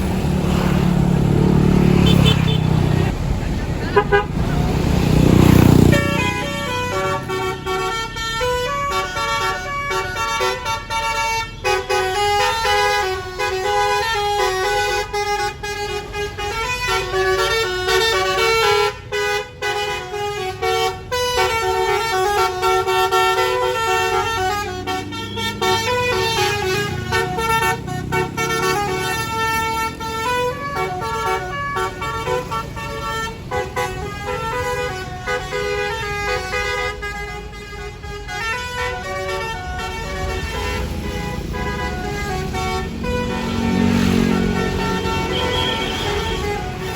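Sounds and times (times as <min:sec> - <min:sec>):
bus engine rumbling: 0:00.0 - 0:46.9
multi-tone air horn melody: 0:01.8 - 0:03.1, 0:03.8 - 0:46.9.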